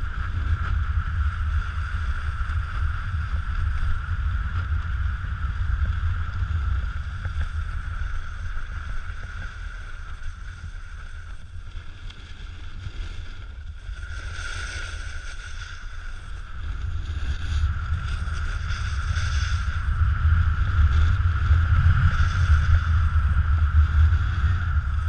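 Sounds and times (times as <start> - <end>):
snowboard sliding over snow: 0.0 - 25.0
wind rushing over microphone: 0.0 - 25.0.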